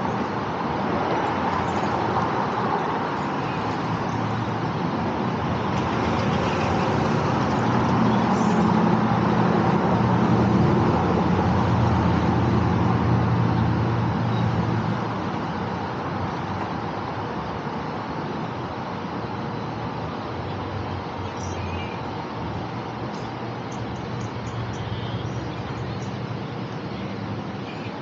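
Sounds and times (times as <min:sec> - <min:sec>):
cars passing on road: 0:00.0 - 0:28.0
heavy vehicle engine hum: 0:00.0 - 0:28.0.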